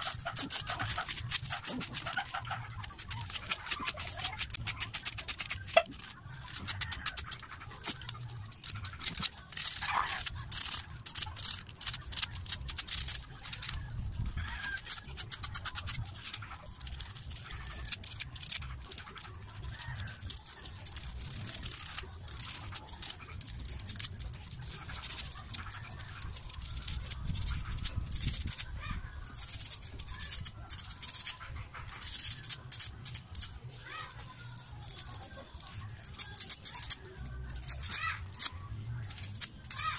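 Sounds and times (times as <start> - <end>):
hand tool scraping metal armature: 0.0 - 39.9.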